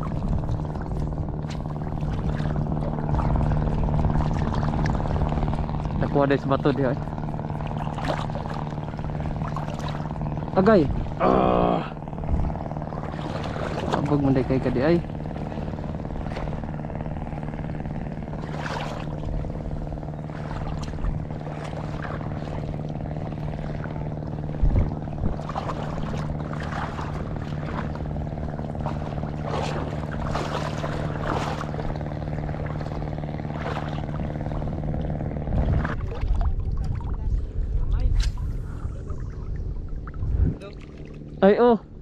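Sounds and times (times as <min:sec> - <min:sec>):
engine humming: 0:00.0 - 0:42.0.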